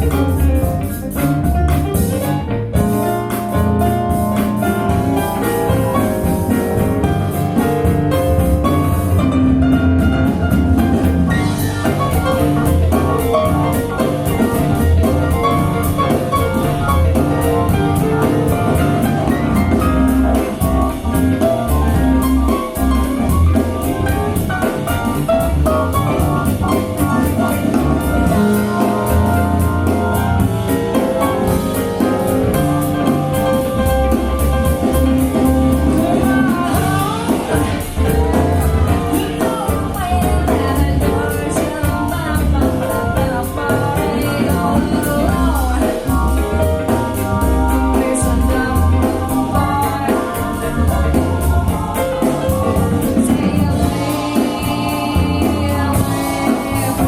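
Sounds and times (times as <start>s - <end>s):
music with steady drum beat: 0.0s - 57.0s.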